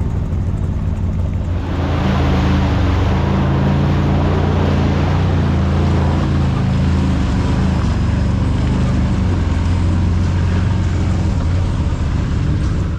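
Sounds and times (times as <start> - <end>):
tyre and chassis noise: 0.0 - 12.9
utility vehicle engine running: 0.0 - 12.9.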